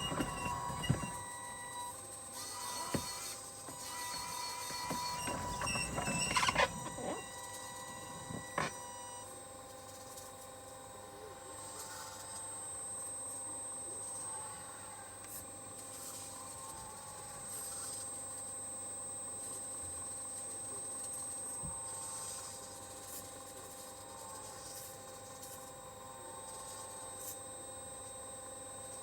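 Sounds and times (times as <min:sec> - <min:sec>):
small electric motors whining: 0:00.0 - 0:29.0.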